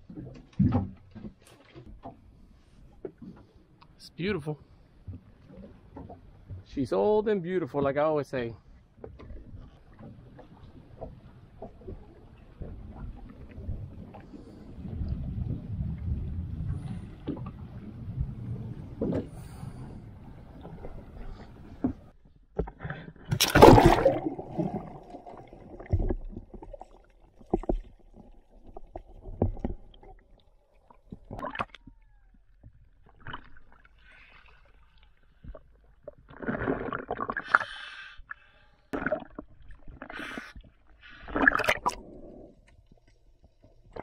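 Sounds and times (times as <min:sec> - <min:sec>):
sea water splashing and gurgling: 0:07.6 - 0:44.0.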